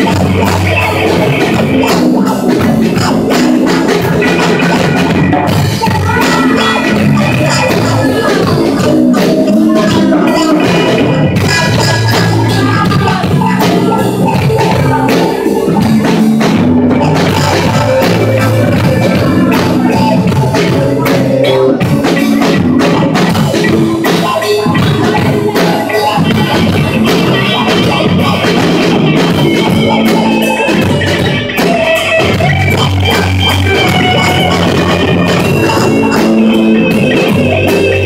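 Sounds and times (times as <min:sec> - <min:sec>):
electric guitars: 0:00.0 - 0:38.0.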